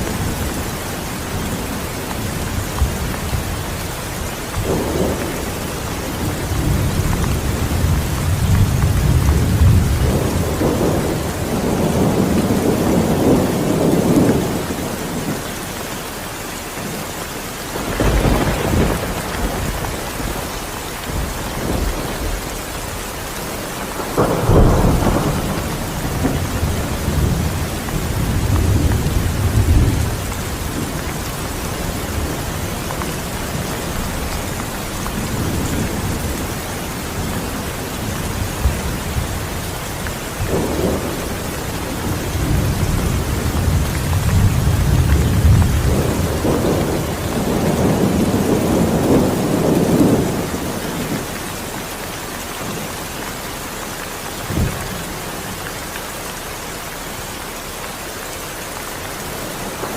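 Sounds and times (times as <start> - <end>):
thunder rumbling: 0.0 - 15.5, 17.6 - 51.9
steady rain: 0.0 - 59.9.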